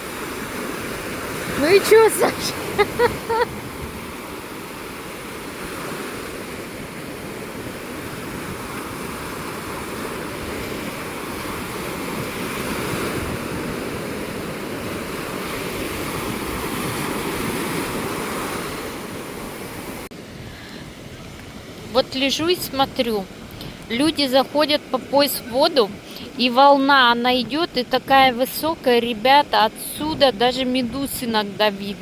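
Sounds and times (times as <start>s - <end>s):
heavy surf breaking on beach: 0.0s - 32.0s.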